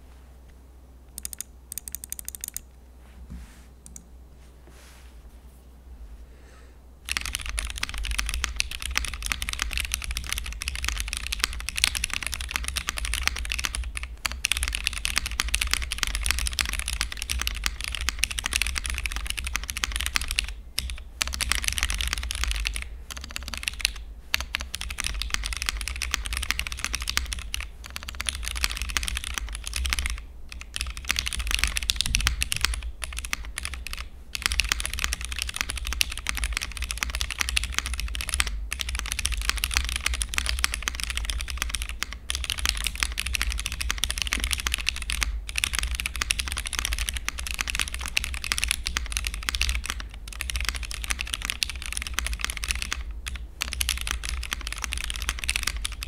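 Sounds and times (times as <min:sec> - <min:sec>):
fast mechanical keyboard typing: 0:01.2 - 0:02.6, 0:07.1 - 0:56.0.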